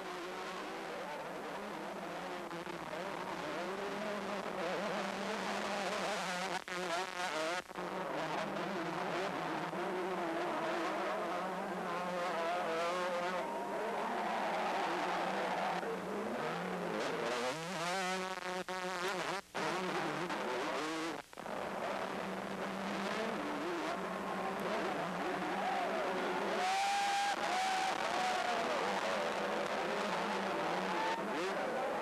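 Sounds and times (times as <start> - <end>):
motocross bike engines revving: 0.1 - 18.3, 19.0 - 32.0.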